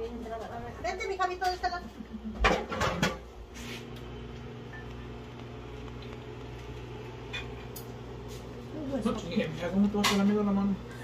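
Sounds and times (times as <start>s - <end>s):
household appliance humming: 0.0s - 11.0s.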